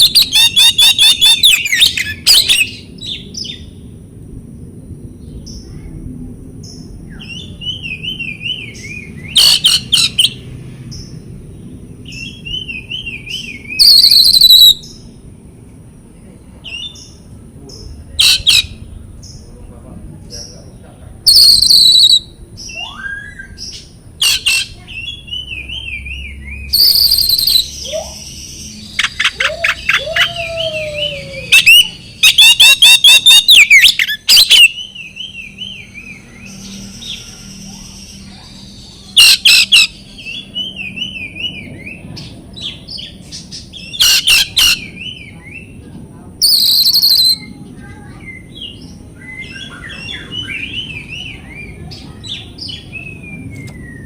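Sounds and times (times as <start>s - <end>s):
bird singing varied song: 0.0s - 4.0s, 6.6s - 54.0s.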